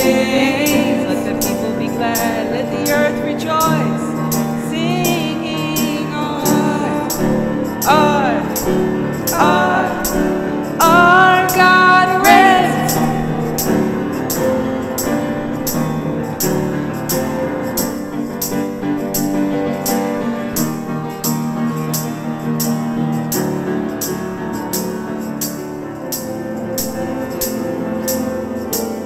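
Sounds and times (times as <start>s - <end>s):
piano chords: 0.0s - 29.0s
tambourine beat: 0.0s - 29.0s.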